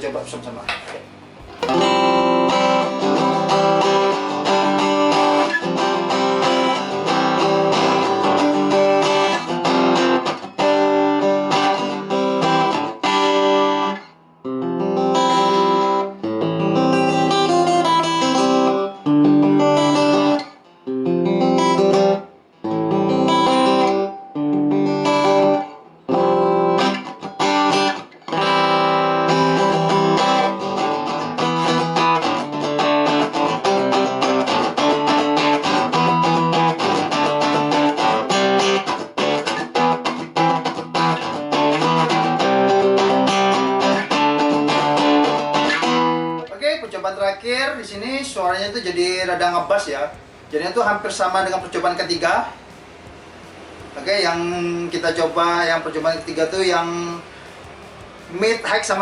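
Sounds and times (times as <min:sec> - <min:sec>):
acoustic guitar strumming chords: 0:00.0 - 0:14.0, 0:14.6 - 0:59.0.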